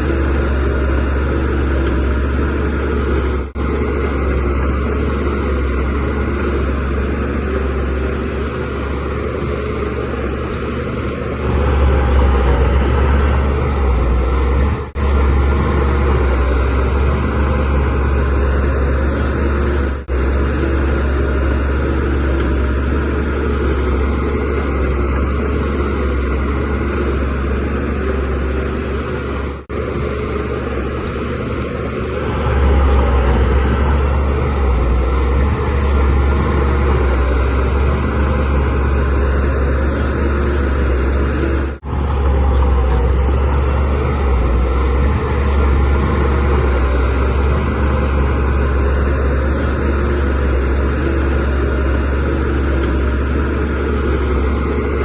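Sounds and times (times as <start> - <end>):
bulldozer diesel engine droning: 0.0 - 55.0.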